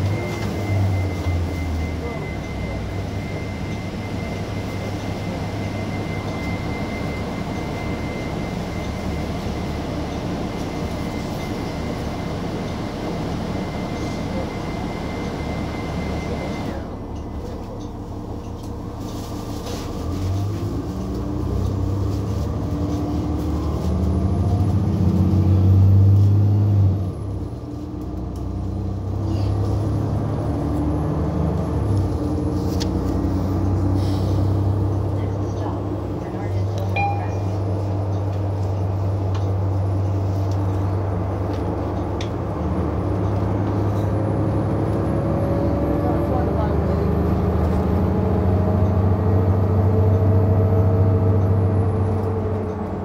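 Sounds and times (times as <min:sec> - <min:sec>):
bus engine rumble: 0:00.0 - 0:53.0.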